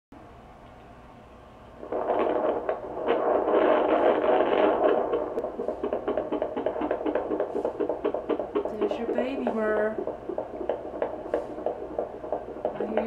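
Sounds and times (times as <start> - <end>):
fast puppy heartbeat pulsing: 1.8 - 13.0.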